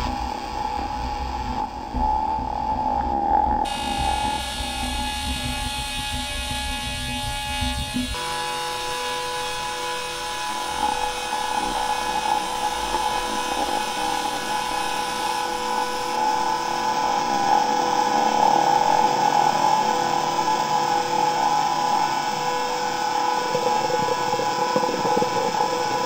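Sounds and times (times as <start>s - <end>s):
high whine: 0.0s - 26.0s.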